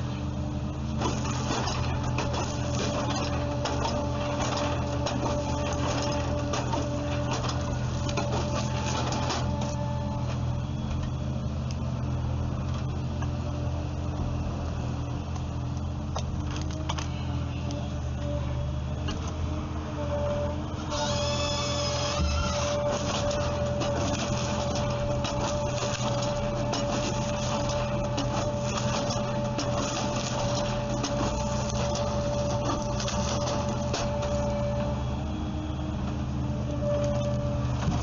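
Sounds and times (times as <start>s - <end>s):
wood-processing machinery hum: 0.0s - 38.0s.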